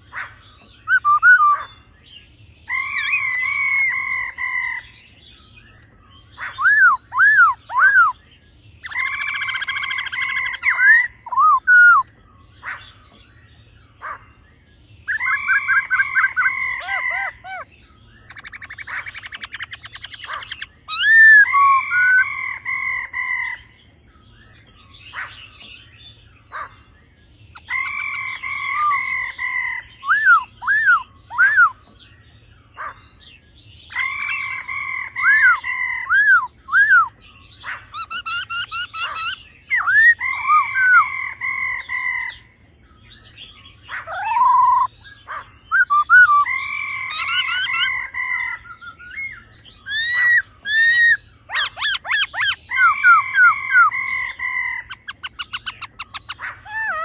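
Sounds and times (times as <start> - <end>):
harsh rattling bird call: 0.0 - 57.0
bird whistling song phrases: 0.6 - 57.0.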